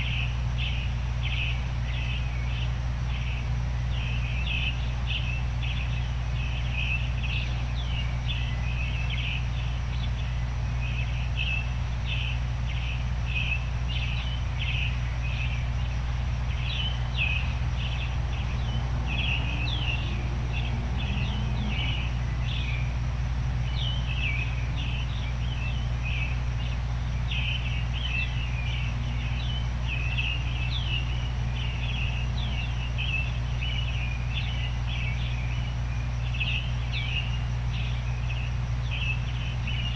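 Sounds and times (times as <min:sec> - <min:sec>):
small birds chirping: 0:00.0 - 0:39.9
steady low noise: 0:00.0 - 0:39.9.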